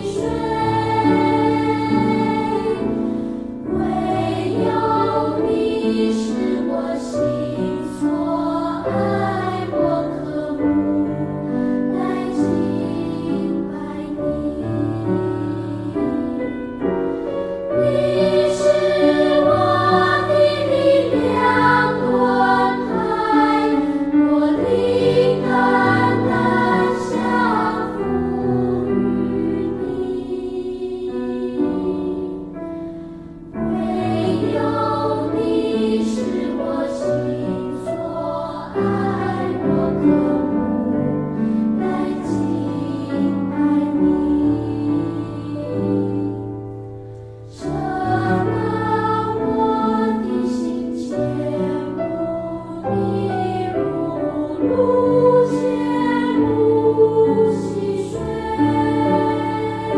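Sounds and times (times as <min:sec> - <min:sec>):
children's choir singing a hymn: 0:00.0 - 0:59.9.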